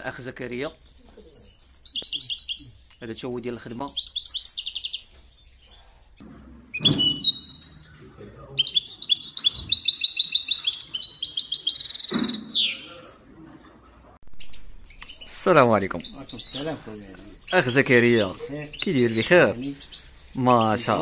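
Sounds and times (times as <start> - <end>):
songbird chirping in trills: 0.0 - 13.2, 14.2 - 21.0.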